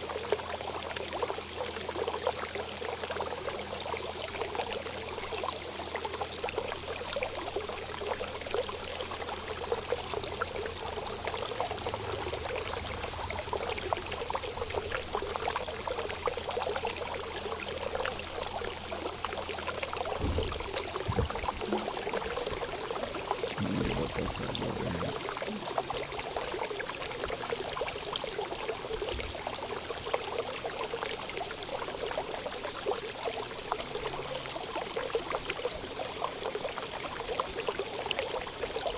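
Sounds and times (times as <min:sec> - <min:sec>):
water running steadily: 0:00.0 - 0:38.9.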